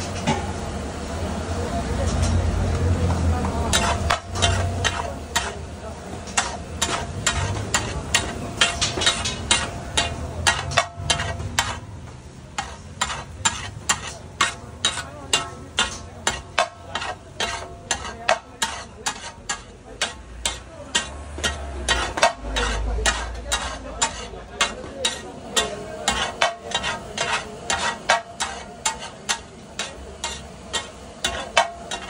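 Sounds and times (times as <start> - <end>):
food sizzling: 0.0 - 32.0
metal spatula clinking on pan: 3.7 - 11.9, 12.5 - 32.0.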